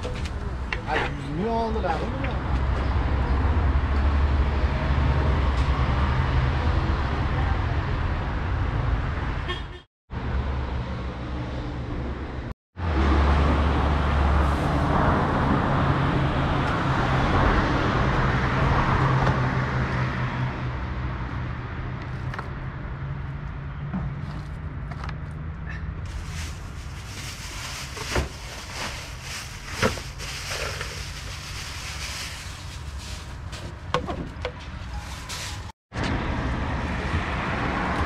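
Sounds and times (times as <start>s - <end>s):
traffic noise: 0.0s - 38.0s.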